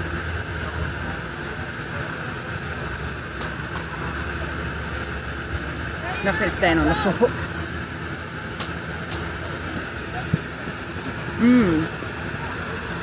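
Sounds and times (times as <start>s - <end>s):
background din with low hum: 0.0s - 13.0s.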